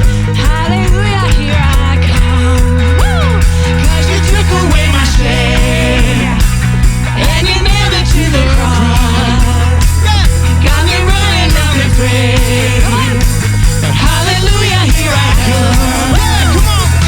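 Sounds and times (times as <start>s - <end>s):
rock band music with singing: 0.0s - 17.0s.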